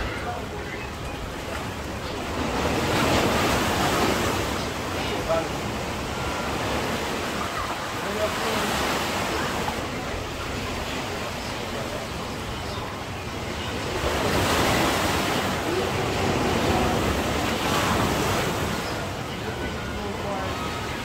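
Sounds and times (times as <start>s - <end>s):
sea surf breaking on beach: 0.0s - 21.0s.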